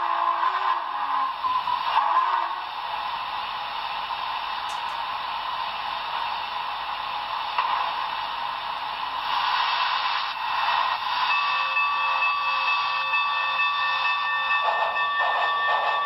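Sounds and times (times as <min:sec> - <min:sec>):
model locomotive steam hiss: 0:00.0 - 0:16.0.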